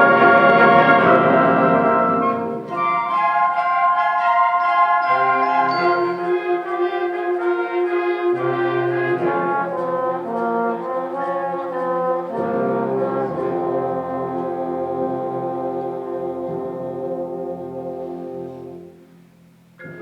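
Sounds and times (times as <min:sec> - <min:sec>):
symphonic band playing chords: 0:00.0 - 0:20.0.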